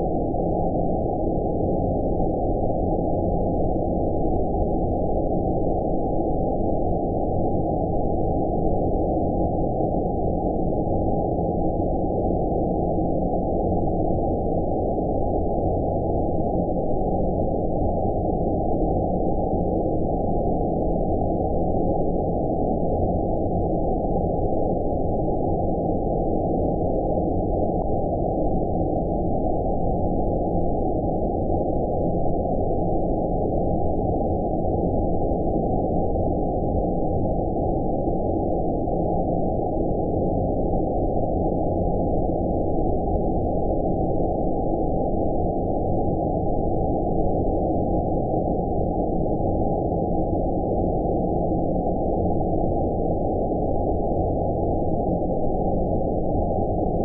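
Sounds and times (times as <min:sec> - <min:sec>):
muffled low rumble noise: 0:00.0 - 0:57.0.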